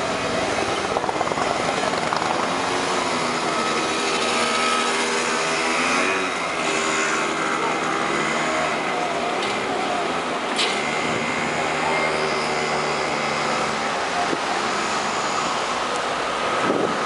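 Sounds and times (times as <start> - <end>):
scooter engines accelerating: 0.0 - 17.0.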